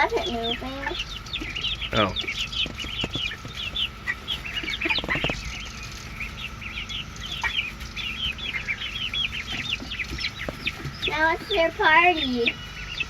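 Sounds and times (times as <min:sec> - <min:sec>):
chickens clucking and calling: 0:00.0 - 0:13.0
steady high hum: 0:00.0 - 0:13.0.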